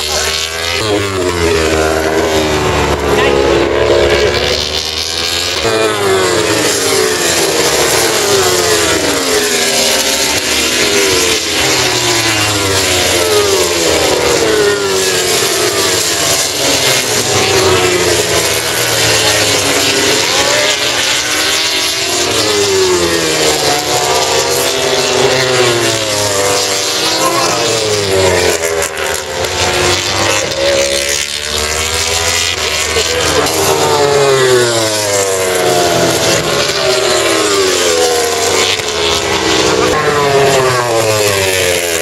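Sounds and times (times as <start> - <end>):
racing motorcycles at high revs: 0.0 - 42.0.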